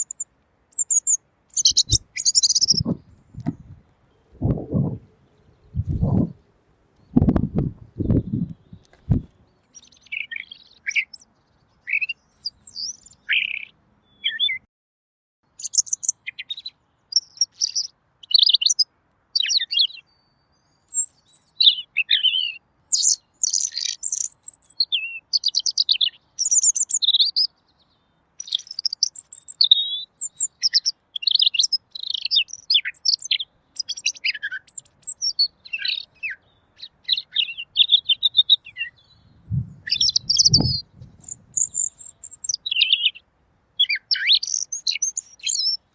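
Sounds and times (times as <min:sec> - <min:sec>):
bird chirps and trills: 0:00.0 - 0:06.4, 0:07.0 - 0:14.6, 0:15.6 - 0:18.8, 0:19.4 - 0:27.6, 0:28.4 - 0:43.2, 0:43.8 - 0:45.9.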